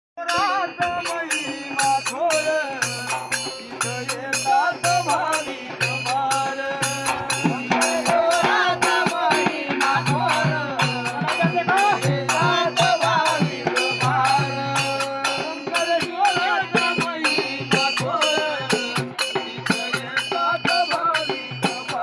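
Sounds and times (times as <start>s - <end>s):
frame drum and percussion beat: 0.2s - 22.0s
men singing devotional song: 0.2s - 22.0s.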